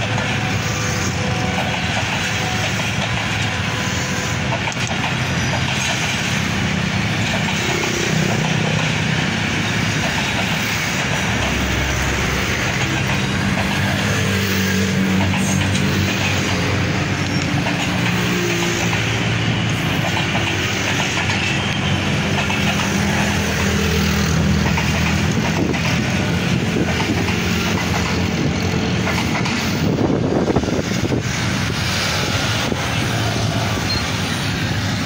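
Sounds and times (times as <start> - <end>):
train coaches rolling on track: 0.0 - 35.0.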